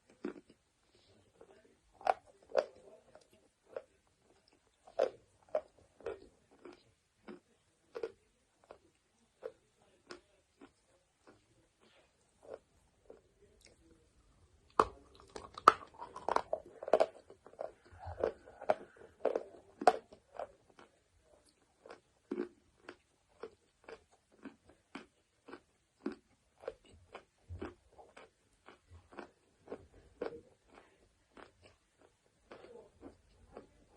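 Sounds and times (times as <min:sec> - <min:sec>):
chewing clicks: 0:01.4 - 0:13.8, 0:14.7 - 0:33.8.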